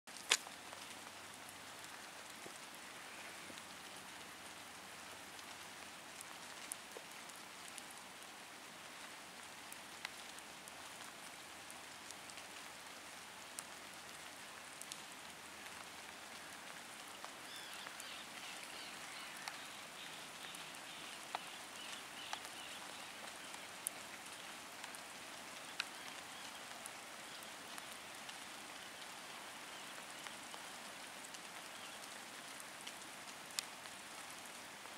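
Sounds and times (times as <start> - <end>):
rainwater patter: 0.1 - 34.9.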